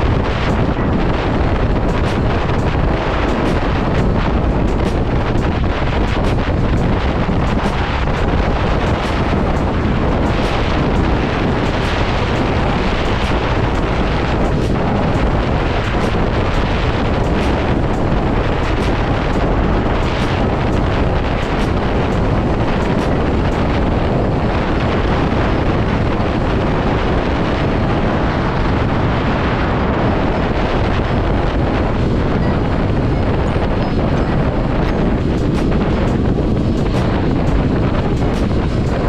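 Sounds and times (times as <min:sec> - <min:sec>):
road noise: 0:00.0 - 0:39.0
wind rushing over microphone: 0:00.0 - 0:39.0.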